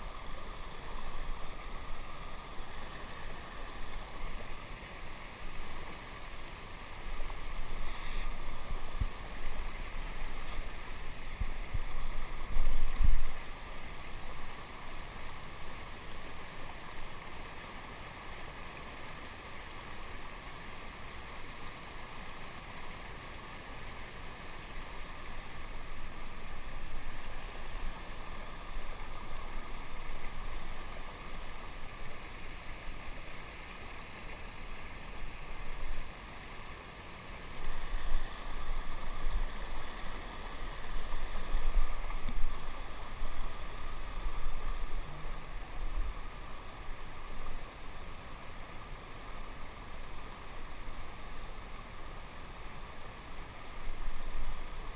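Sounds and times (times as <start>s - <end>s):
river water rushing: 0.0s - 54.9s.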